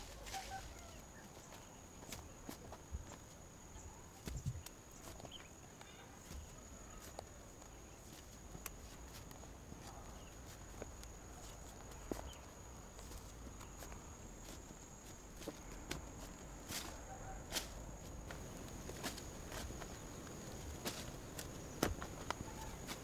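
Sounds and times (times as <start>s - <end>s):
crackles and knocks of handling: 4.2s - 23.0s.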